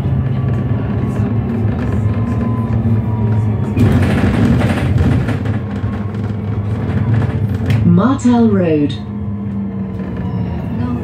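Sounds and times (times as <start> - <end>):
bus interior hum and road noise: 0.0 - 11.0.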